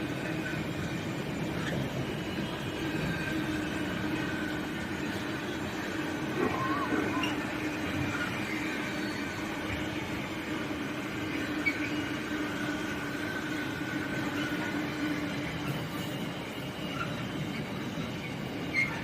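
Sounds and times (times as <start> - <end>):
train humming and whining: 0.0 - 19.0.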